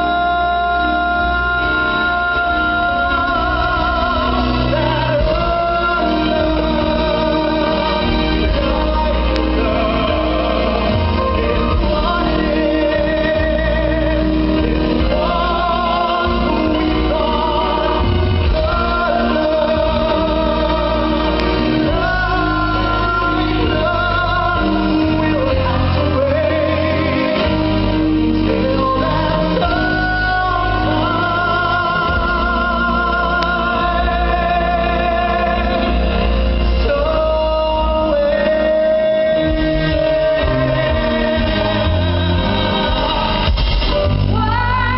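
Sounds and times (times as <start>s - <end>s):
live band playing: 0.0s - 44.9s
person singing with vibrato: 0.0s - 44.9s.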